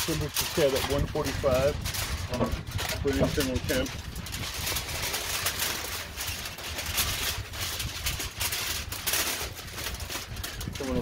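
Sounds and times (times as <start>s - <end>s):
foil crinkling and rustling: 0.0s - 11.0s.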